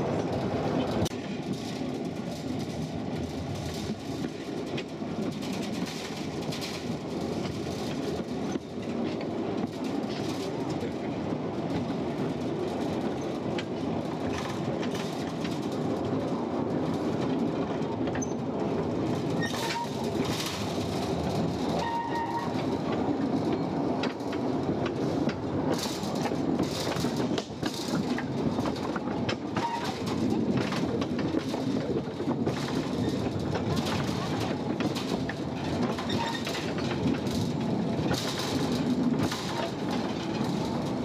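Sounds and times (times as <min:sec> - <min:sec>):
train rumble: 0:00.0 - 0:41.0
wheels and cars clattering: 0:00.0 - 0:41.0.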